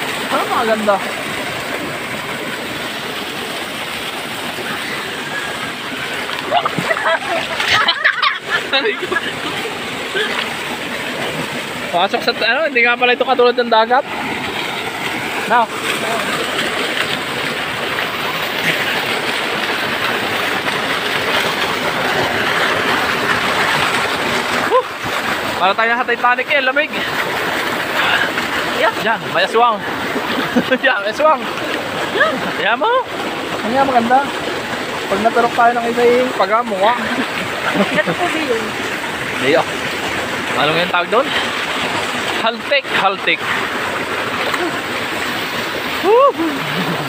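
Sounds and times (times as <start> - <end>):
river rushing over rocks: 0.0 - 47.0
small waterfall pouring: 0.0 - 47.0.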